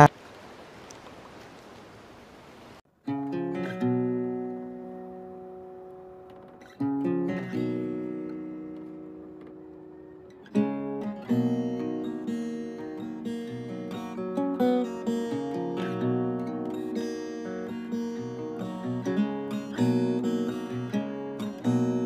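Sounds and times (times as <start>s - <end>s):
acoustic guitar music: 3.0s - 22.0s.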